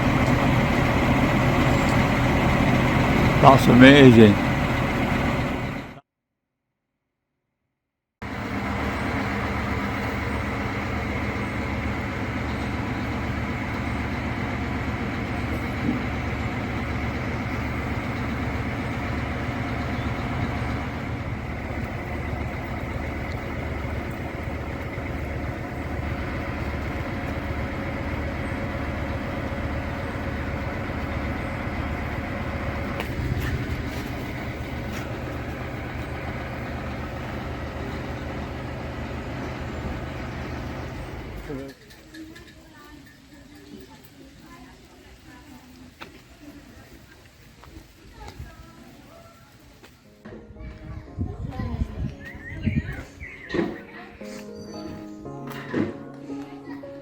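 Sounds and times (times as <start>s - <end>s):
large engine idling: 0.0s - 6.0s, 8.2s - 57.0s.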